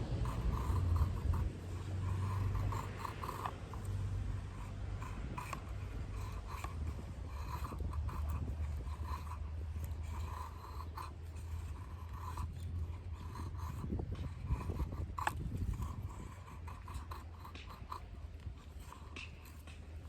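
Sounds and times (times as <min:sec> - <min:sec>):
knife scraping wood: 0:00.0 - 0:20.0.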